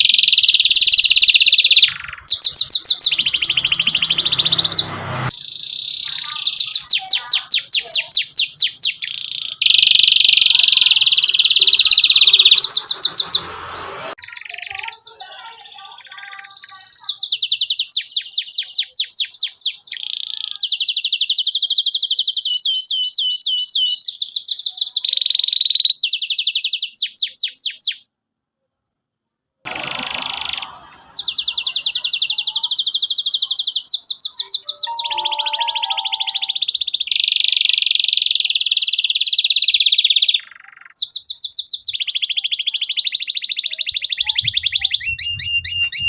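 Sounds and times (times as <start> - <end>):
canary singing trills: 0.0 - 28.0, 30.2 - 46.0.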